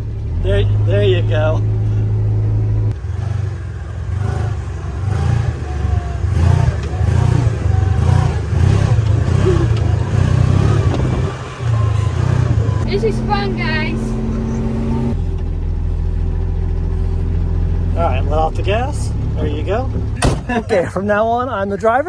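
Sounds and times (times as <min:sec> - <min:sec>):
farm vehicle engine running: 0:00.0 - 0:22.0.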